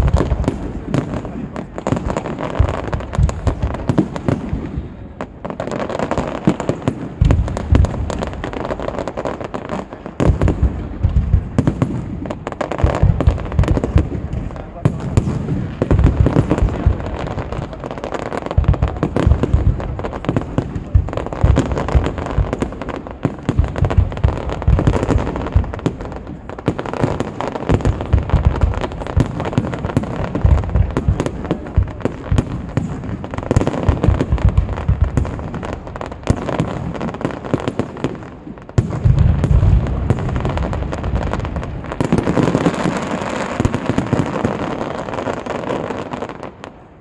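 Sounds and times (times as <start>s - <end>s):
fireworks bangs and booms: 0.0s - 47.0s.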